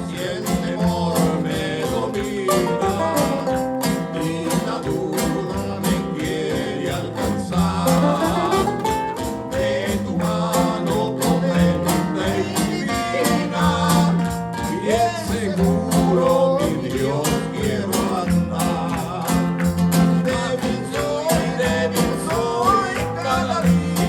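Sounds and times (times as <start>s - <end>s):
bass: 0.0s - 24.0s
guitar: 0.0s - 24.0s
person singing: 0.0s - 24.0s.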